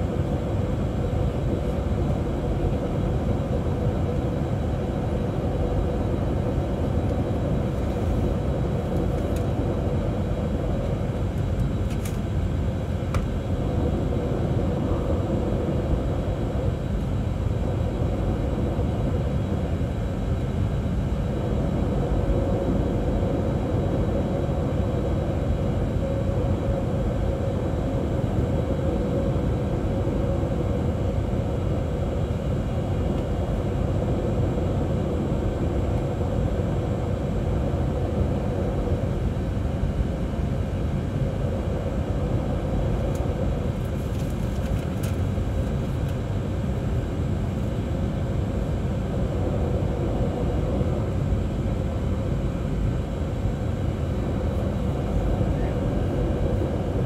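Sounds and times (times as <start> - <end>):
jet engines rumbling: 0.0 - 57.0
steady cabin hum: 0.0 - 57.0.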